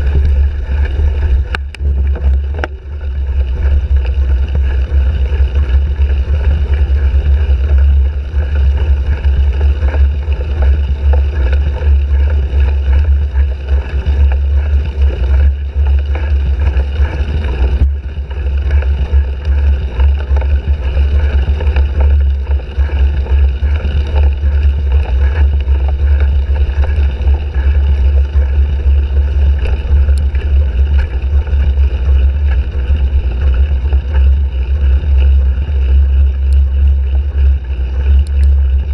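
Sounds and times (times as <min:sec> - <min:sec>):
rattly noise: 0:00.0 - 0:38.9
wind buffeting microphone: 0:00.0 - 0:38.9.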